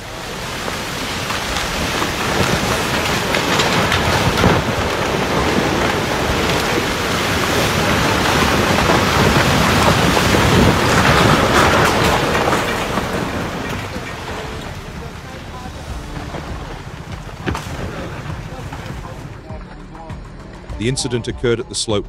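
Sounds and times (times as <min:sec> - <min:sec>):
falling stones knocking: 0:00.0 - 0:19.5
rumbling roar of rockfall: 0:00.0 - 0:20.4.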